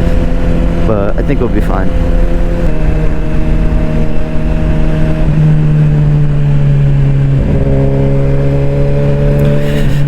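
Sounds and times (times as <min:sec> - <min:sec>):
motorcycle engine running: 0:00.0 - 0:10.0
wind rumble on microphone: 0:00.0 - 0:10.0.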